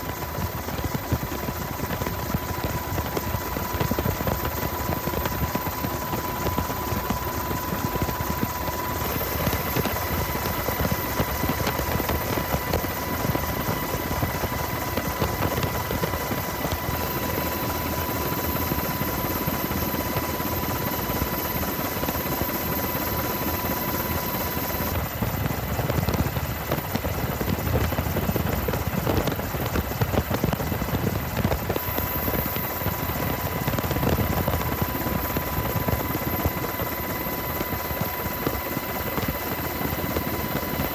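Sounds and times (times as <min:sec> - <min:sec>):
helicopter high whine: 0:00.0 - 0:40.9
helicopter rotor chop: 0:00.0 - 0:40.9.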